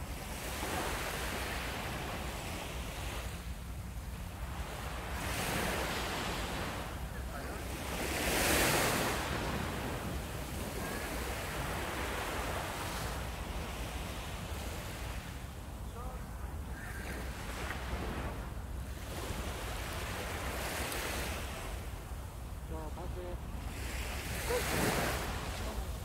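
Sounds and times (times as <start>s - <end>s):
surf washing onto beach: 4.4s - 26.0s.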